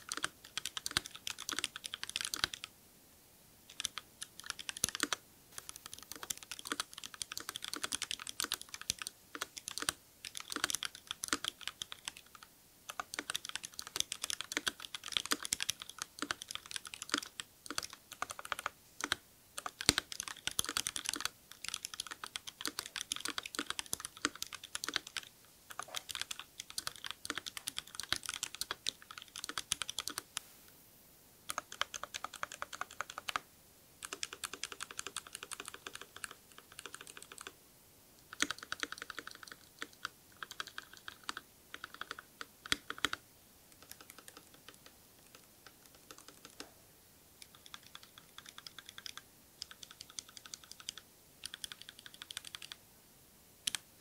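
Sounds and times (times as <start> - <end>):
mechanical keyboard typing: 0.0 - 2.7, 3.7 - 30.3, 31.5 - 33.4, 34.0 - 37.6, 38.2 - 46.7, 47.4 - 52.8, 53.6 - 53.8.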